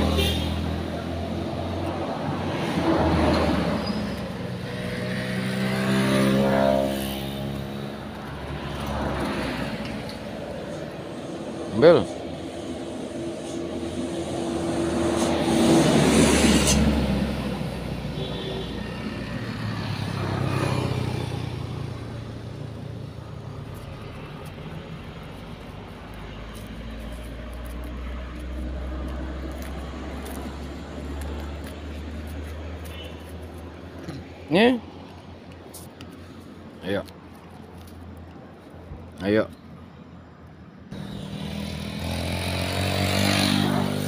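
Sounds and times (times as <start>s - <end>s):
vehicles passing on road: 0.0s - 44.0s.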